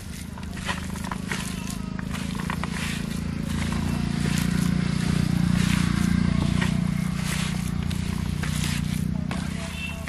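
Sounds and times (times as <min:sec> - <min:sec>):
low motor drone: 0:00.0 - 0:09.9
hands squishing minced meat: 0:00.0 - 0:10.0.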